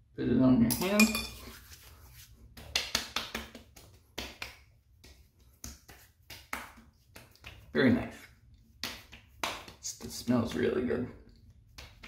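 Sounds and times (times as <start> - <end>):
hands patting and rubbing skin: 1.4 - 12.0.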